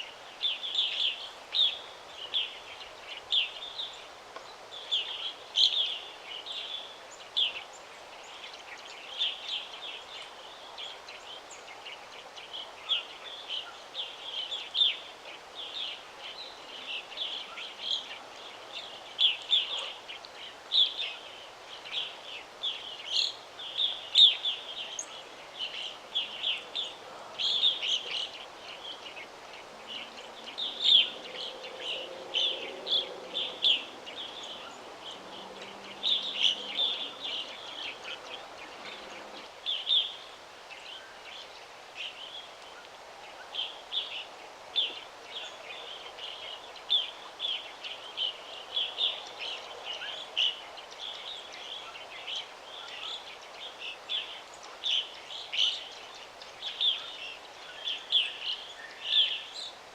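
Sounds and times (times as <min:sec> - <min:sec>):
songbirds chirping: 0:00.0 - 0:59.9
steady background hiss: 0:00.0 - 0:59.9.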